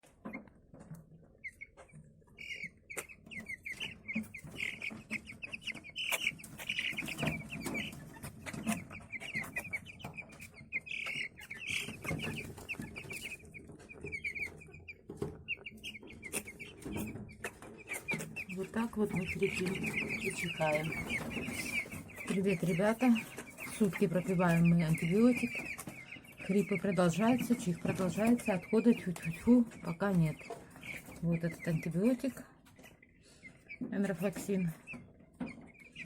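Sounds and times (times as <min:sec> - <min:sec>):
chicks peeping: 0:00.0 - 0:36.0
chicks sneezing: 0:01.4 - 0:32.0.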